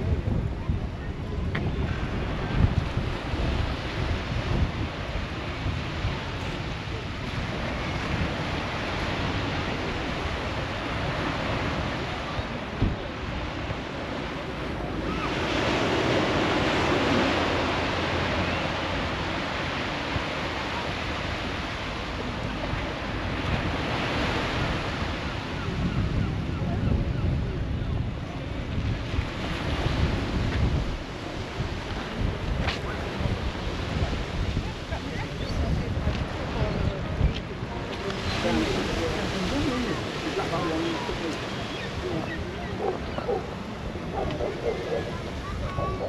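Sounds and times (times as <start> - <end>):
sea waves washing onto beach: 0.0 - 46.0
wind buffeting microphone: 0.0 - 46.0.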